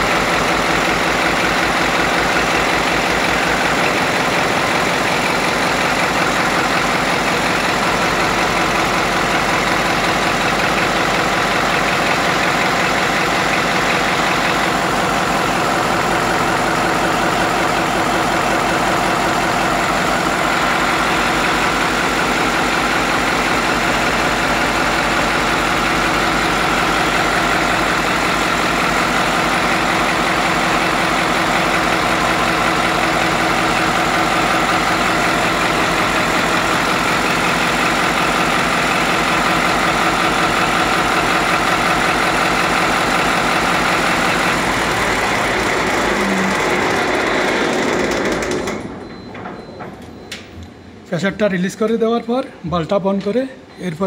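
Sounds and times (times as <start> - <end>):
diesel engine droning: 0.0 - 49.3.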